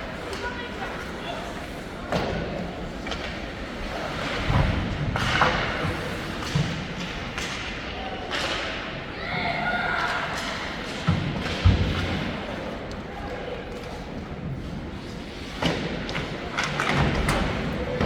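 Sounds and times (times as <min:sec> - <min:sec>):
hockey sticks and puck clacking: 0:00.2 - 0:09.0, 0:10.0 - 0:18.0.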